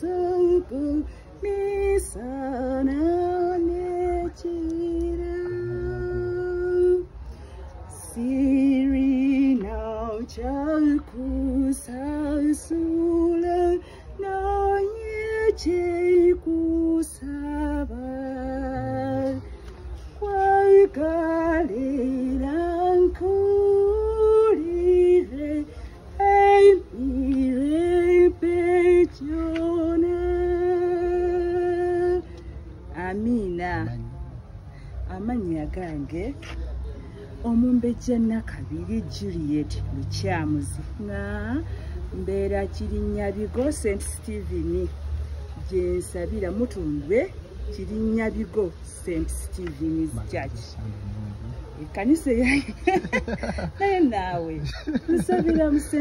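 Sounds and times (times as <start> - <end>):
woman singing gospel song: 0.0 - 34.0, 35.0 - 36.6, 37.4 - 45.0, 45.6 - 50.7, 51.8 - 56.0.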